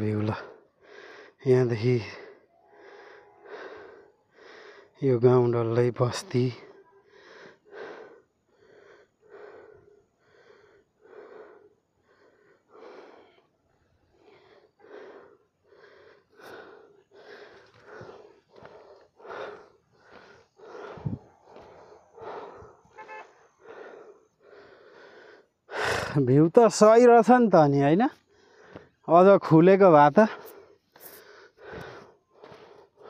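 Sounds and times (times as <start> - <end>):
person breathing hard: 0.3 - 1.4, 2.0 - 5.0, 6.6 - 26.3, 28.2 - 29.1, 30.2 - 33.0.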